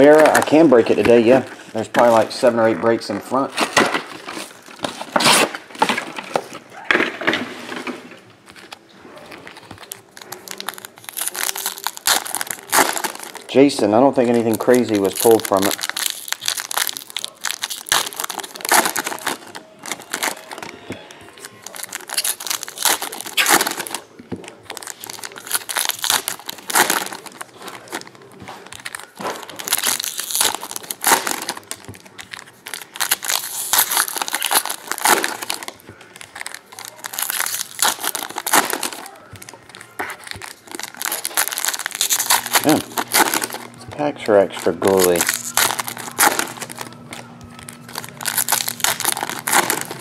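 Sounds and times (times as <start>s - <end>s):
foil wrappers tearing and crinkling: 0.0s - 6.6s, 8.6s - 50.0s.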